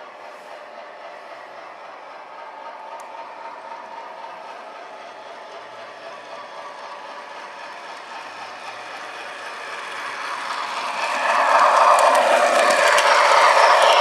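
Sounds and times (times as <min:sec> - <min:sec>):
model train rattling on track: 0:00.0 - 0:14.0.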